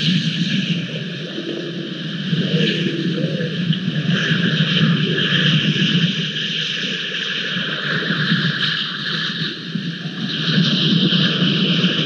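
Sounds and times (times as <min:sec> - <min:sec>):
wind and rain on microphone: 0:00.0 - 0:12.0.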